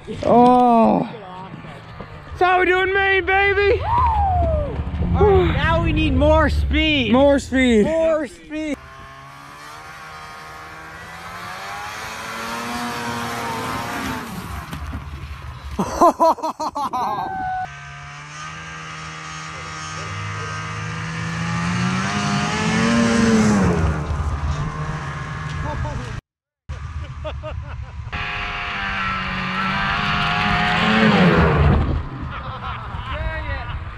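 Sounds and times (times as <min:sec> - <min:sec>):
snowmobile engine passing by: 0:02.2 - 0:14.8, 0:17.0 - 0:33.6.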